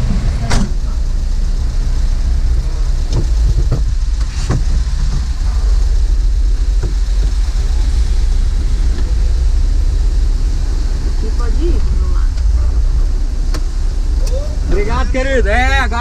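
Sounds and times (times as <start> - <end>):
engine running low rumble: 0.0 - 16.0
rain: 0.0 - 16.0.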